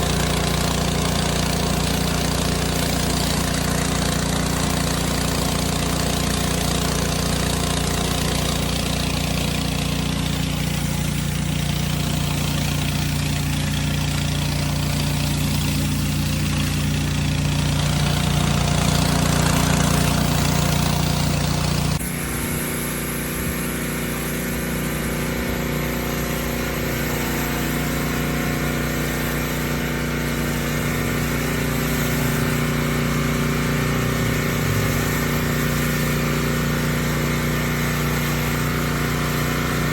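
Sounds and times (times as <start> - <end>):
pressure washer engine running: 0.0 - 39.9
water spraying hiss: 0.0 - 39.9.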